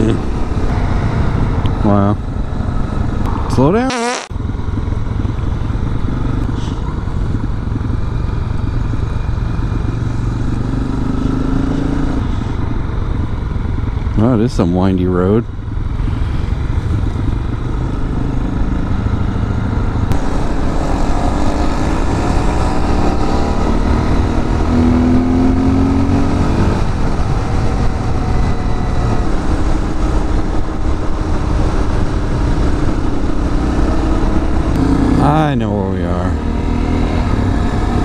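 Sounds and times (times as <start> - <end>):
wind noise: 0.0 - 14.9, 15.9 - 35.2
motorcycle engine: 0.0 - 38.0.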